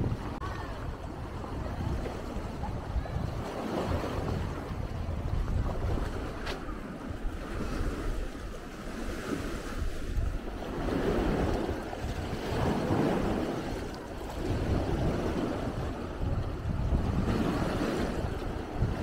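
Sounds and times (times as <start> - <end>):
small waves washing on shore: 0.0 - 19.0
wind on microphone: 0.0 - 19.0.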